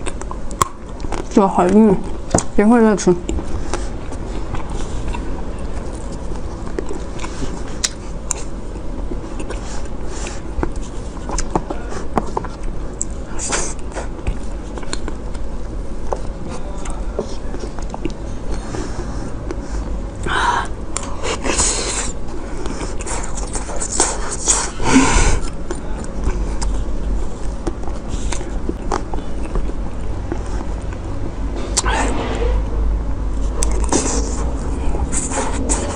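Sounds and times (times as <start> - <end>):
soft chewing: 0.0 - 31.9, 33.1 - 35.9.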